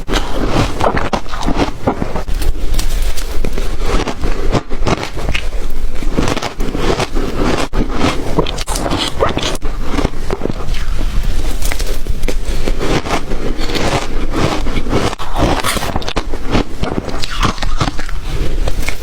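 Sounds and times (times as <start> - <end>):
ice being bitten and chewed: 0.0 - 19.0.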